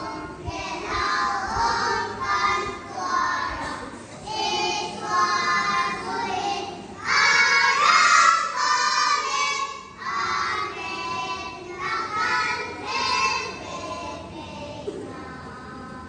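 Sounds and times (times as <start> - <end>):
young children singing: 0.0 - 16.0.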